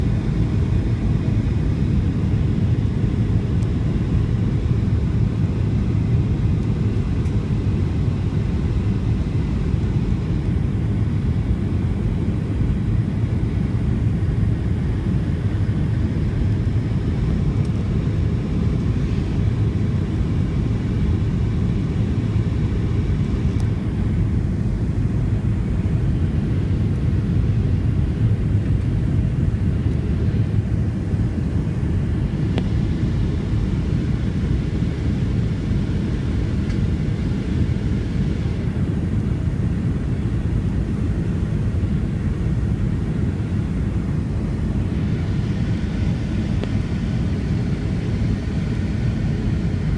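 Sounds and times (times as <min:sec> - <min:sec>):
airplane cabin engine rumble: 0:00.0 - 0:49.9
airflow noise: 0:04.8 - 0:49.9.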